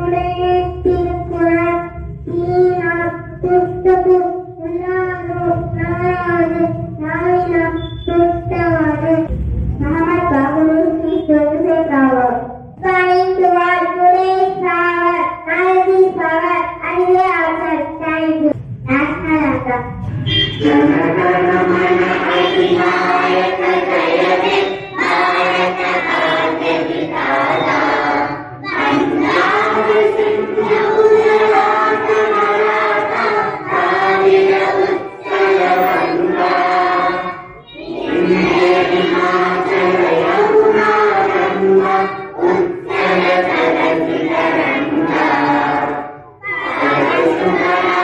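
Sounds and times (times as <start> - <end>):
children singing together: 0.0 - 9.3, 12.8 - 18.6, 20.3 - 48.0.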